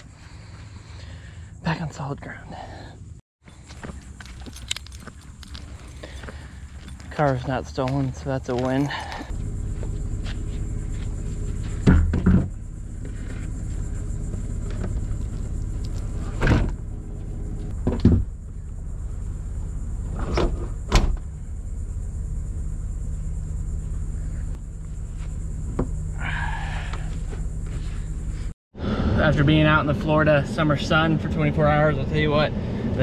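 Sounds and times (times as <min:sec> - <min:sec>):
steady low rumble: 0:03.0 - 0:33.0.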